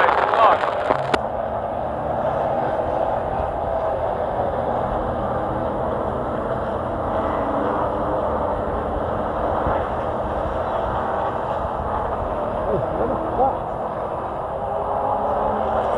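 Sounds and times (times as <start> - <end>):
race truck engine running hard: 0.0 - 15.9.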